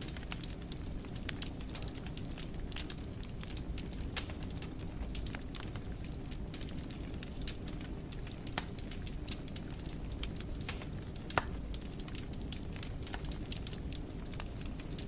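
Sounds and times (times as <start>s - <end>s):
fire crackling in fireplace: 0.0s - 15.0s
low rumble of flames: 0.0s - 15.0s.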